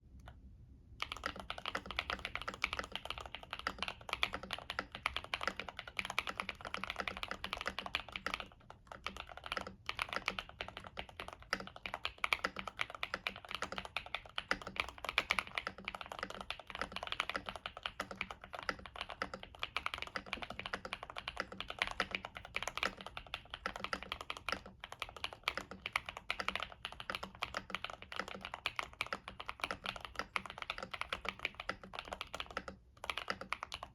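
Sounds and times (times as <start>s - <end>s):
mechanical keyboard key clacks: 1.0s - 33.9s.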